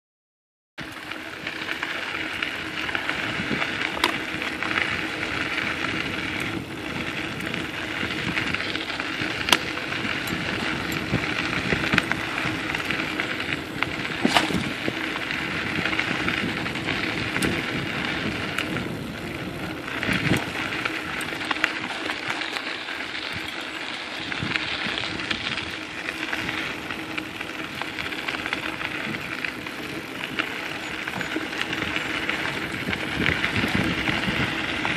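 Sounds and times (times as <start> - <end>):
tyre and wind rushing: 2.2 - 34.9.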